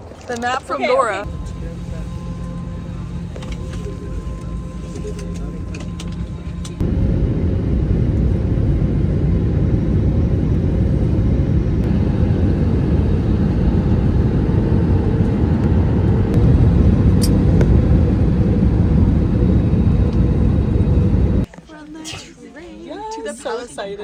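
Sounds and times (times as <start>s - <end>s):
vehicle rumble: 0.0s - 21.5s
faint steady hum: 0.6s - 22.0s.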